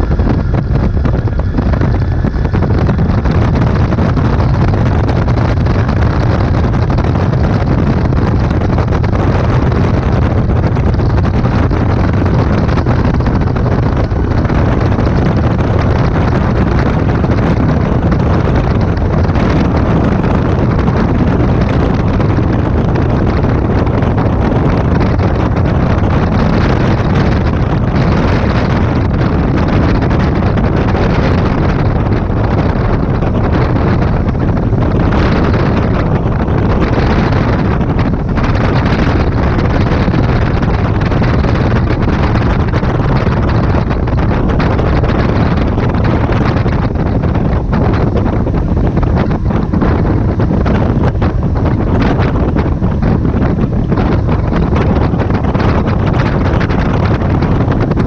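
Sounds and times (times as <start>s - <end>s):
light aircraft engine and propeller: 0.0s - 58.0s
wind noise on microphone: 0.0s - 58.0s.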